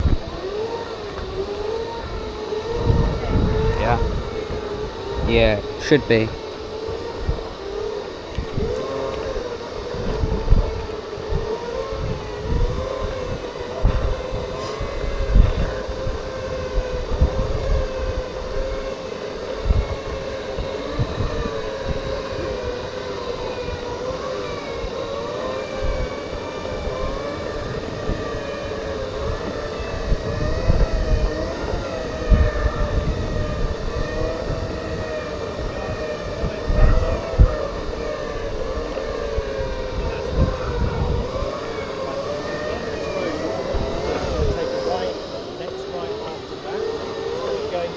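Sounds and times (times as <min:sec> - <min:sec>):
electric motors whining: 0:00.0 - 0:47.9
wind buffeting microphone: 0:00.0 - 0:47.9.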